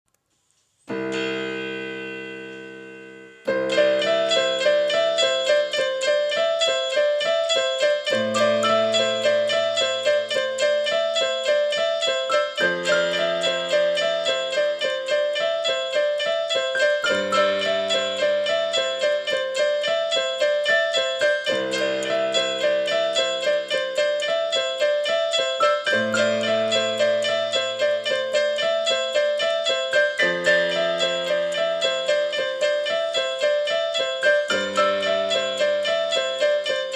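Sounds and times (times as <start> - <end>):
piano music: 0.9 - 36.9.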